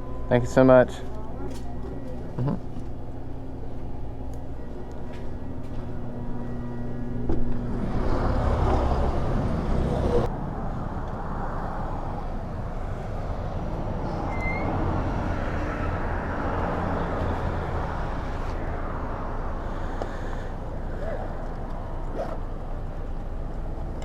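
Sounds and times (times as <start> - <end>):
road and wind noise: 0.0 - 24.0.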